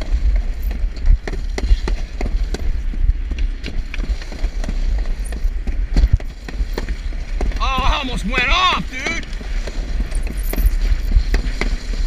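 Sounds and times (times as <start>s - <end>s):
sled rattling over track: 0.0s - 12.0s
wind rumble on microphone: 0.0s - 12.0s.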